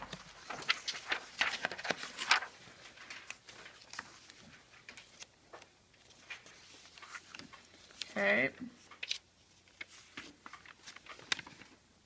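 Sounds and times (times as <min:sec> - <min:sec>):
paper rustling: 0:00.0 - 0:08.2, 0:08.8 - 0:11.8.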